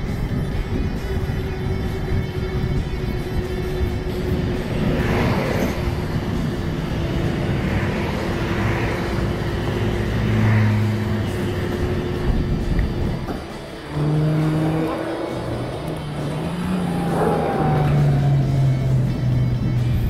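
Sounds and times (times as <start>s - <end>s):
road vehicle hum: 0.0s - 20.0s
vehicle passing: 0.1s - 20.0s.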